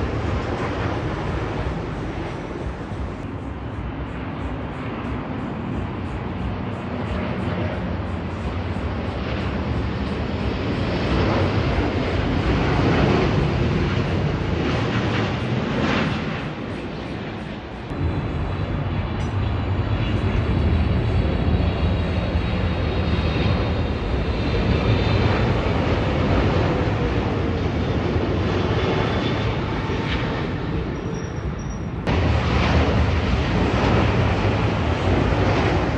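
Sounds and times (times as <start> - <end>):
high engine whine: 0.0 - 35.9
jet engines roaring: 0.0 - 35.9.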